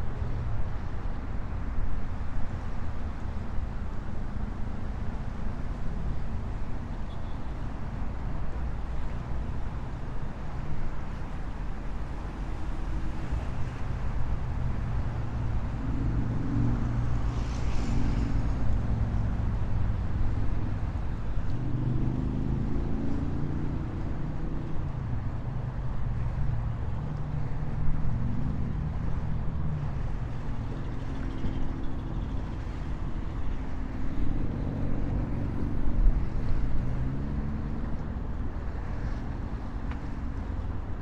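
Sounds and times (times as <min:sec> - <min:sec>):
wind rumble on microphone: 0:00.0 - 0:41.0
road traffic passing: 0:02.5 - 0:41.0.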